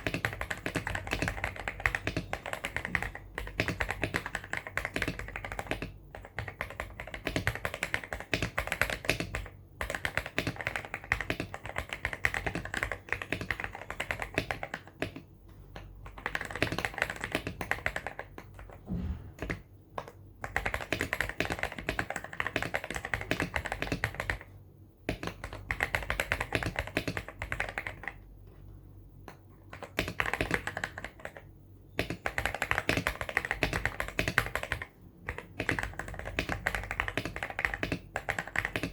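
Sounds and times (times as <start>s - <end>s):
mechanical keyboard typing: 0.0s - 18.8s, 19.4s - 28.2s, 29.2s - 38.9s.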